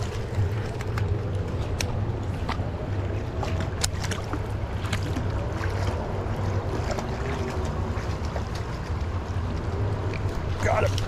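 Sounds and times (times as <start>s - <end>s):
small ticks and splashes: 0.0s - 11.0s
wind rumble on microphone: 0.0s - 11.0s.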